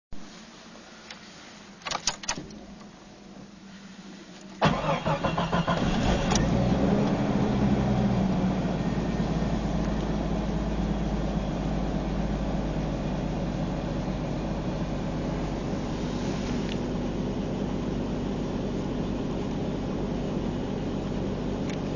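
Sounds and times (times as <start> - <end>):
car engine cranking and idling: 4.3 - 21.9.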